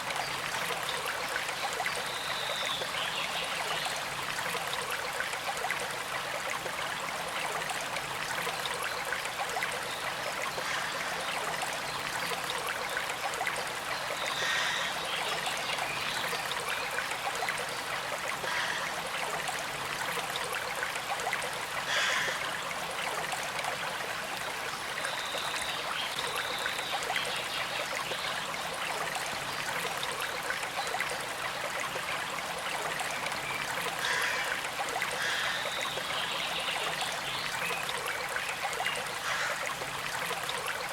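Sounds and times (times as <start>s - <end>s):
stream flowing and trickling: 0.0s - 40.9s.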